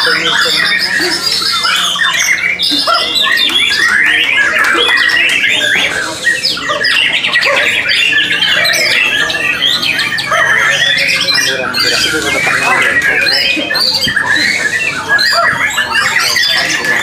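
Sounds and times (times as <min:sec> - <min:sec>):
other songbirds singing: 0:00.0 - 0:17.0
songbird singing whistles and trills: 0:00.0 - 0:17.0.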